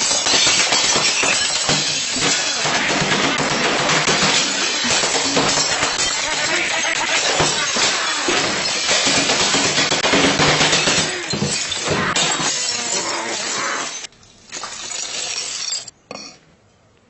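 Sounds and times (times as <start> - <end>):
loud crunching and crackling: 0.0 - 14.8.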